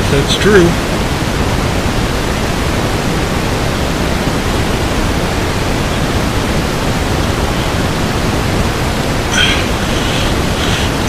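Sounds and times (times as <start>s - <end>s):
loud rushing noise: 0.0s - 11.0s.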